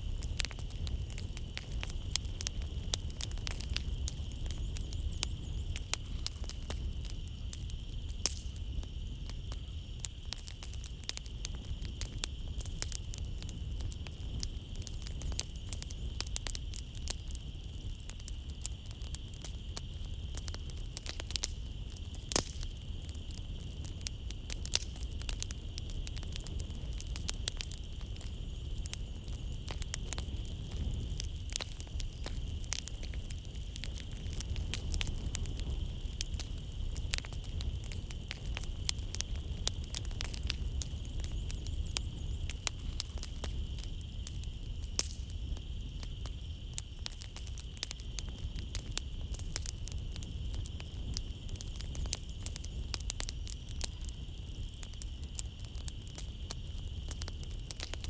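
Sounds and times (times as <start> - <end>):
night insects chirring: 0.0 - 58.0
wood fire crackling: 0.0 - 58.0.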